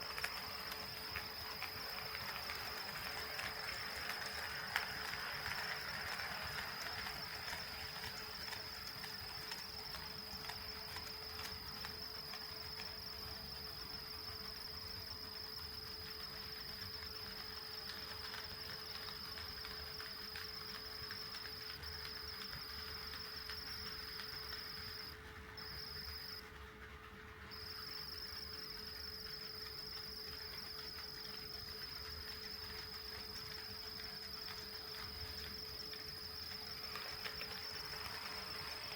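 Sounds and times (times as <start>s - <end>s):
light rolling hiss: 0.0s - 38.9s
model train electrical whine: 0.0s - 38.9s.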